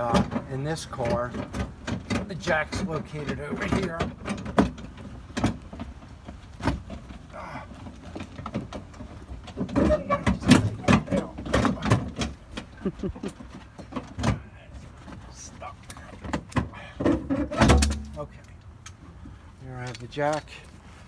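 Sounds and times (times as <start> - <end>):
car jack knocking and rattling: 0.0 - 15.3, 16.0 - 18.4.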